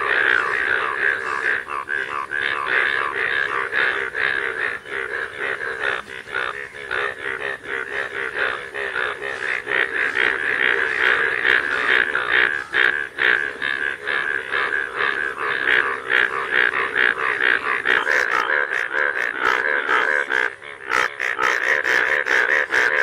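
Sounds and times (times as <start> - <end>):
frogs croaking in chorus: 0.0 - 23.0.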